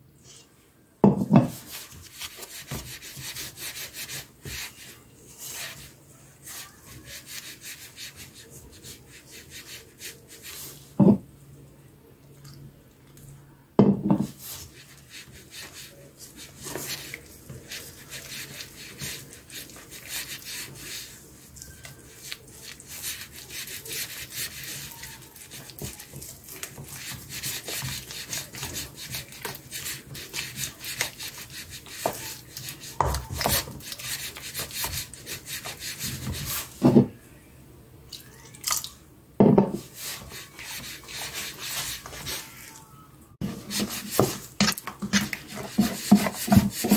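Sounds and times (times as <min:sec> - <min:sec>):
wooden spoon scraping batter in bowl: 0:01.2 - 0:11.0, 0:14.1 - 0:37.0, 0:39.6 - 0:42.8, 0:43.4 - 0:46.9.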